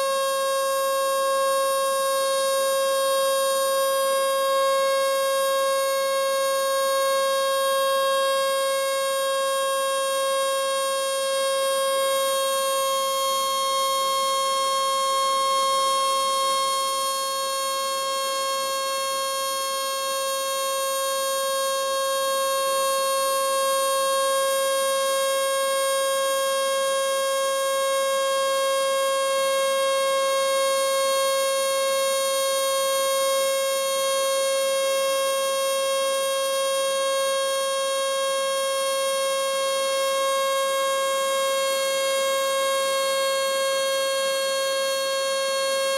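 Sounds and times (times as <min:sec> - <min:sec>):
electric siren steady tone: 0:00.0 - 0:45.9.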